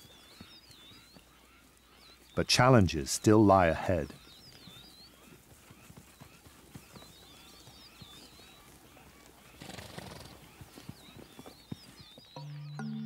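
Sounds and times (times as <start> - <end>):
hoof steps and shuffling: 0.0 - 12.7
faint high chirping: 0.0 - 13.0.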